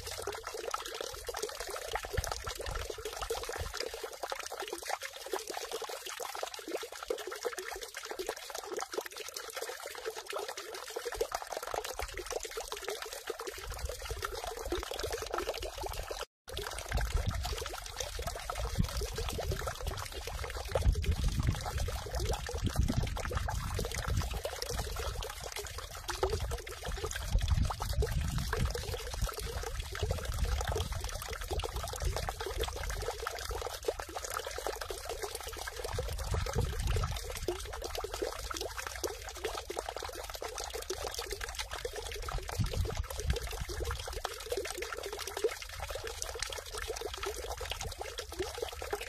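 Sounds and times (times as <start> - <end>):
water trickling into stone basin: 0.0 - 49.0.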